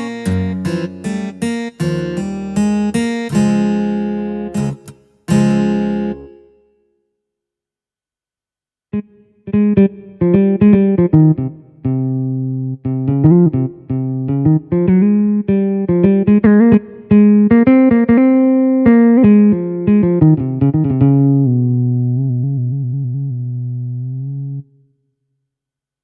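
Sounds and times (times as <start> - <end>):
keytar plucked-string melody: 0.0 - 6.6, 9.5 - 24.6.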